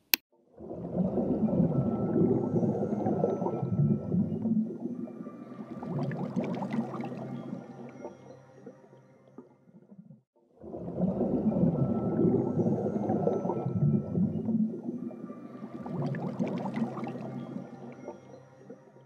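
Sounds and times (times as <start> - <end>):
low ambient drone with gurgling: 0.4 - 19.0.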